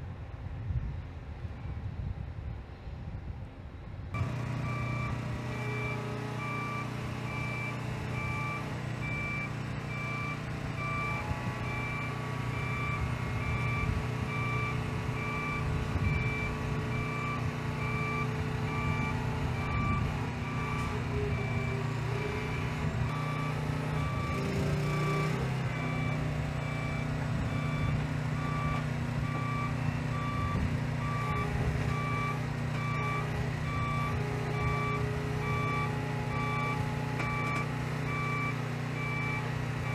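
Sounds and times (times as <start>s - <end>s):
diesel truck engine running: 4.1s - 39.9s
backup alarm beeping: 4.2s - 39.9s.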